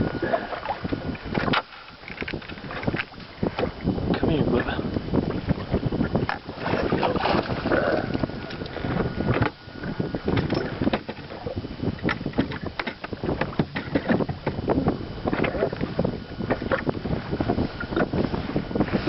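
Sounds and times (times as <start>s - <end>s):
water splashing against boat: 0.0s - 19.0s
wind buffeting microphone: 0.0s - 19.0s.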